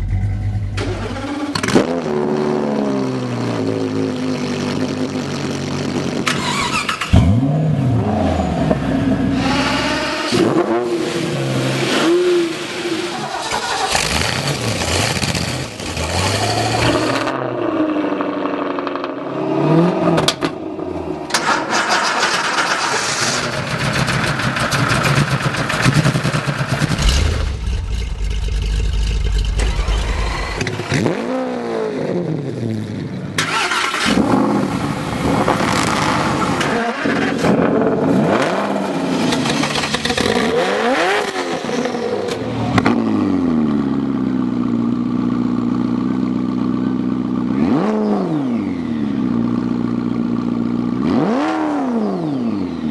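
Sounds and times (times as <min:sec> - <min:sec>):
engine revving: 0:00.0 - 0:20.6, 0:21.3 - 0:44.1, 0:47.3 - 0:49.3, 0:51.0 - 0:52.9.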